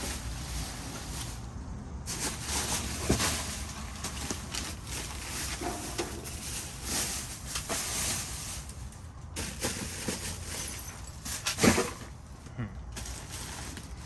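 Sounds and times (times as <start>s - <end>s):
trash bags rustling and crinkling: 0.0s - 14.0s.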